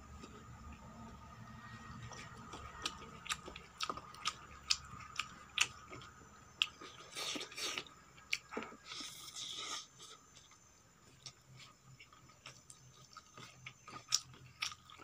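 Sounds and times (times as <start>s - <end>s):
chewing and mouth smacks: 2.1s - 15.0s.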